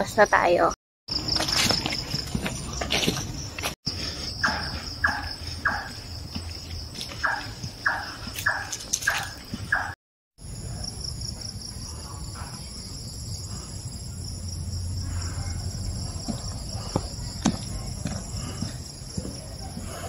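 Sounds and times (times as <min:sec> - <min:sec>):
crickets trilling: 0:01.1 - 0:20.0.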